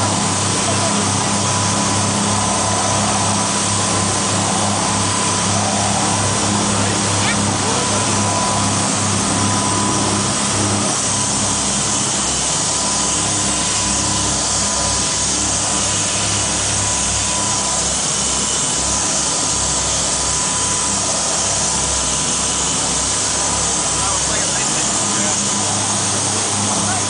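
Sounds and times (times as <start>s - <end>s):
boat engines droning: 0.0s - 27.0s
wind: 0.0s - 27.0s.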